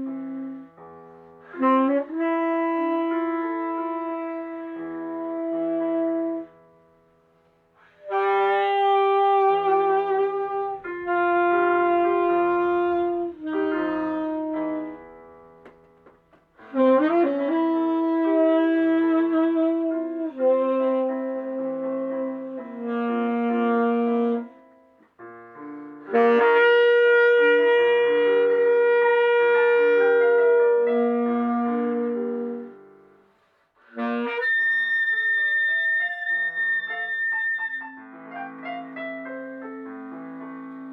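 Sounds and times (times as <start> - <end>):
tenor saxophone playing: 0.0 - 6.8, 7.8 - 15.8, 16.6 - 40.9
sustained piano chords: 0.0 - 33.4, 34.3 - 40.9.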